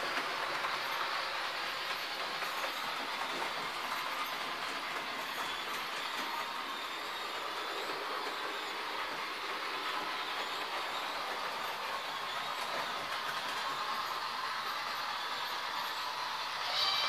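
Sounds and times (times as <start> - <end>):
model train motors whirring: 0.0 - 17.0
wheels rattling on rails: 0.0 - 17.0.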